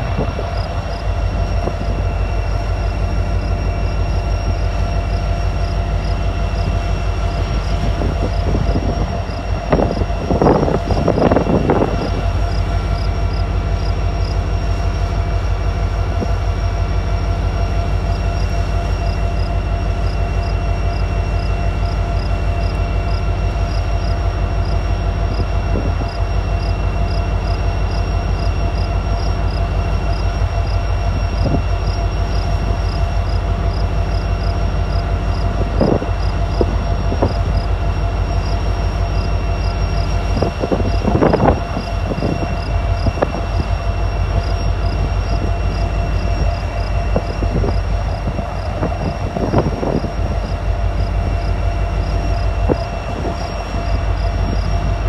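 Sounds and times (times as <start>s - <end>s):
locomotive diesel engine droning: 0.0s - 55.0s.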